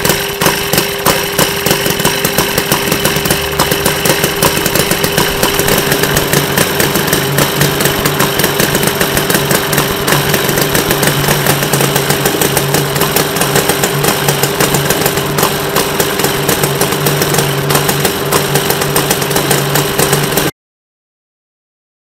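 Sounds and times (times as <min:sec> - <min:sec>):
model engine fast idle: 0:00.0 - 0:20.5.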